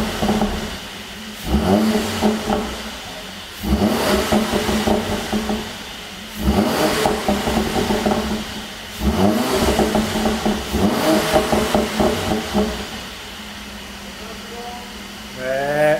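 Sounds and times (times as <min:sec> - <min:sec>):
exhaust crackles and pops: 0:00.0 - 0:13.3
car engine revving: 0:00.0 - 0:15.9.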